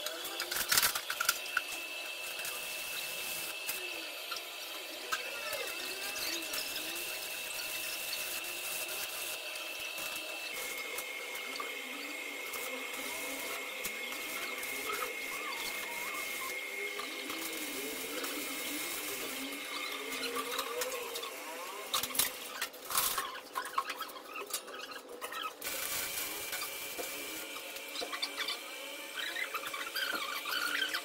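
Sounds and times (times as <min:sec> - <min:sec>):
arc welding crackling: 0:00.0 - 0:31.0.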